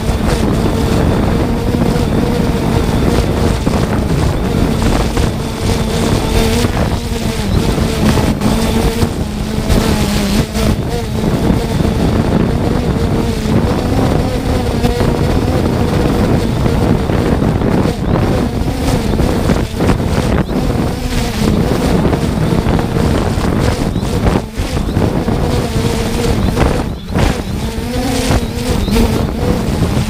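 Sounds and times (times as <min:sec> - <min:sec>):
drone propellers humming: 0:00.0 - 0:30.0
wind buffeting microphone: 0:00.0 - 0:30.0.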